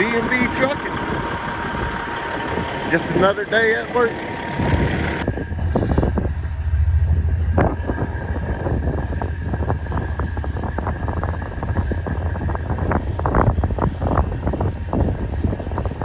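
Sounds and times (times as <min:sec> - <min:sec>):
low engine rumble: 0:00.0 - 0:16.0
wind buffeting microphone: 0:00.0 - 0:16.0.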